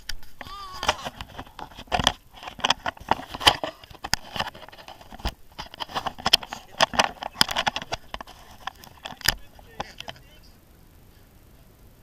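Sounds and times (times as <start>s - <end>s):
camera rubbing against jacket: 0.0s - 10.5s.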